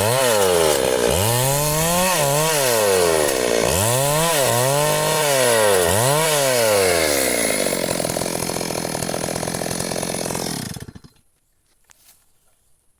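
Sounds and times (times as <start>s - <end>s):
chainsaw engine revving and idling: 0.0s - 11.2s.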